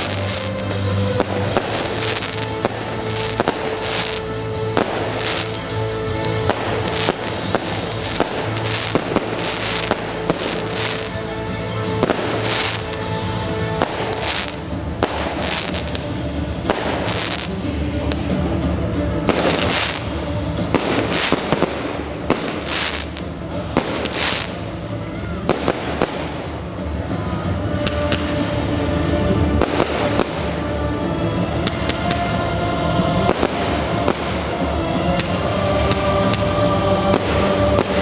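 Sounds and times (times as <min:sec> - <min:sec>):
epic music chords: 0:00.0 - 0:38.0.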